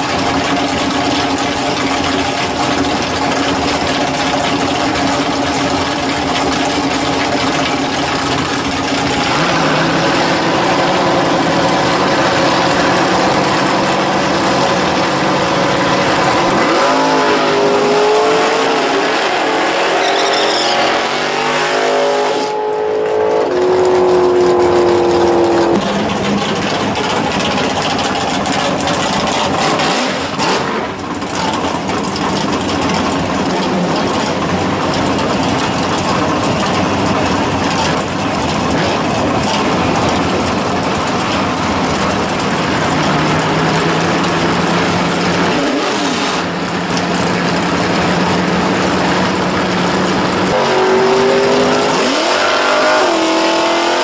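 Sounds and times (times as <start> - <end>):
drag race car engines revving: 0.0 - 54.0.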